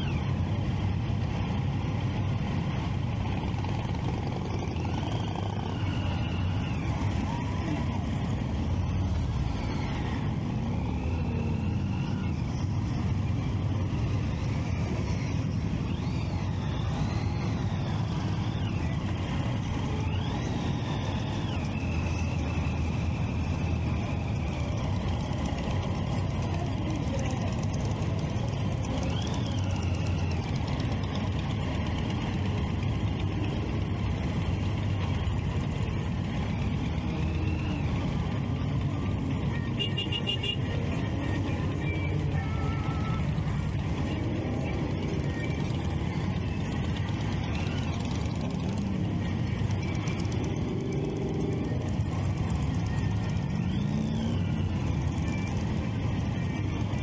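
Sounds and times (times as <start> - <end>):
engines revving: 0.0 - 57.0
motorcycle engines rumbling: 0.0 - 57.0.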